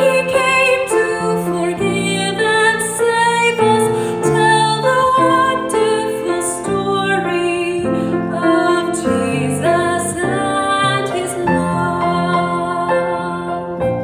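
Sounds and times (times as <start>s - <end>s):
piano accompaniment: 0.0s - 14.0s
woman singing: 0.0s - 14.0s.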